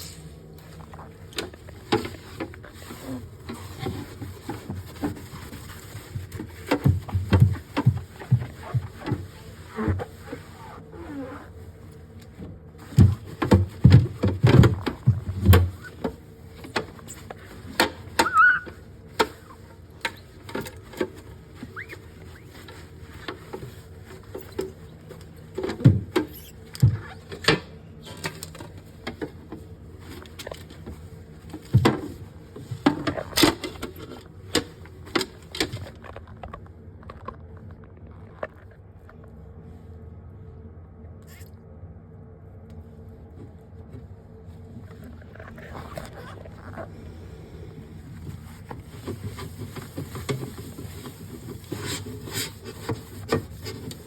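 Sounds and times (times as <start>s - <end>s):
faint electrical hum: 0.0s - 54.0s.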